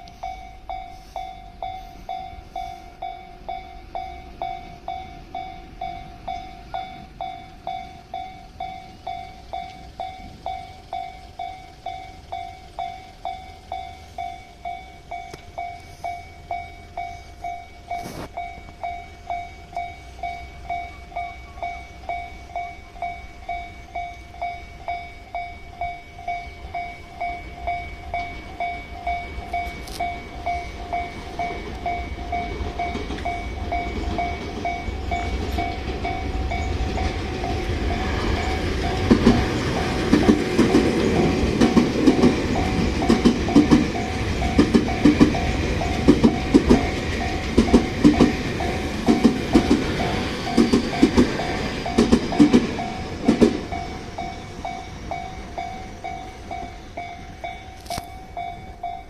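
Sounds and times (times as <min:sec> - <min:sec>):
level-crossing warning bell ringing: 0:00.0 - 0:59.0
train running noise: 0:00.0 - 0:59.0.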